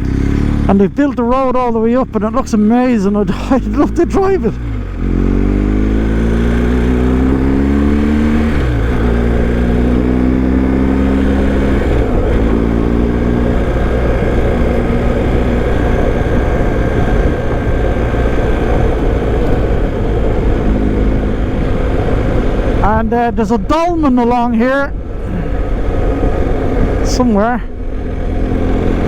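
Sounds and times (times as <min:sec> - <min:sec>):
motorcycle engine accelerating: 0:00.0 - 0:29.0
wind noise rushing: 0:05.2 - 0:29.0.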